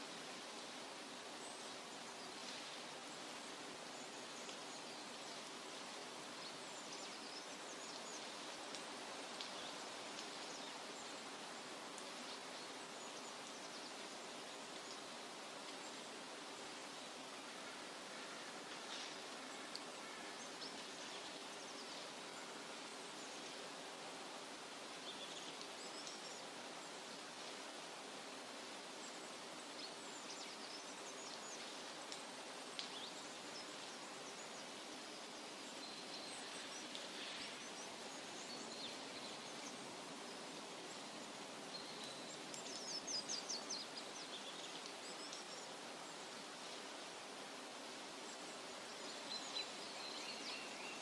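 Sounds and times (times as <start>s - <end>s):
steady soft hiss: 0.0s - 51.0s.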